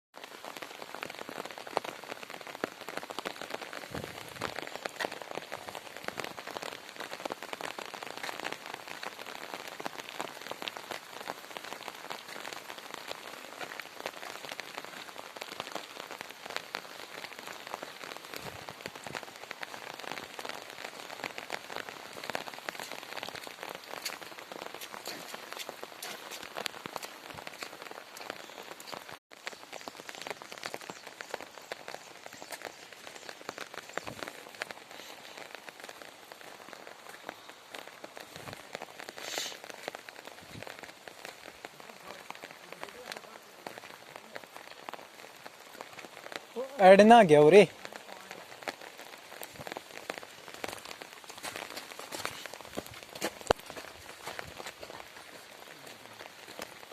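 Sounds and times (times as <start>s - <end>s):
steady rain patter: 0.2s - 56.9s.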